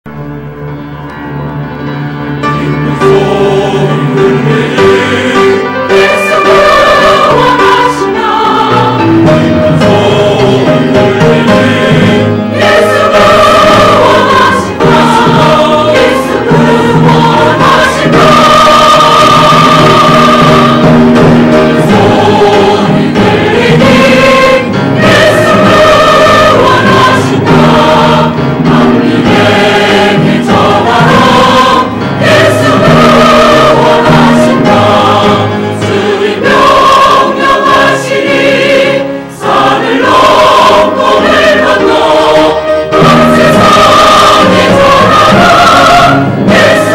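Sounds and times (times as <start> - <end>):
choir singing: 0.1 - 46.9.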